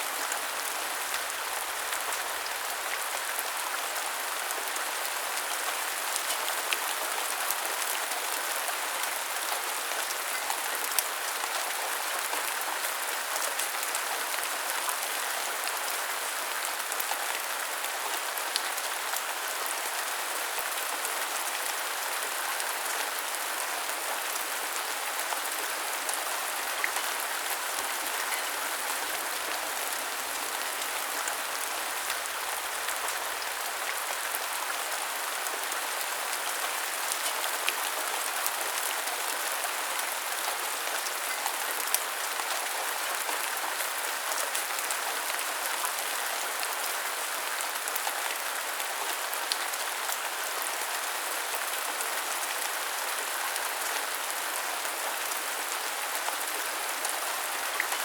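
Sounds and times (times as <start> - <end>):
rain pattering: 0.1 - 50.8.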